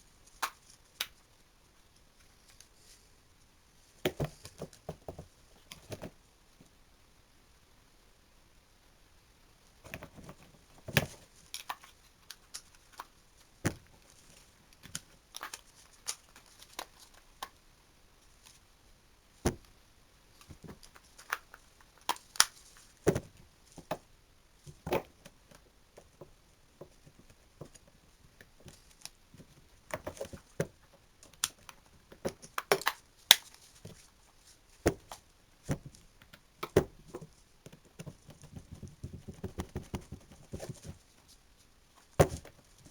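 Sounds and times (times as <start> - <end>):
rustling: 0.0 - 6.7, 9.6 - 42.9.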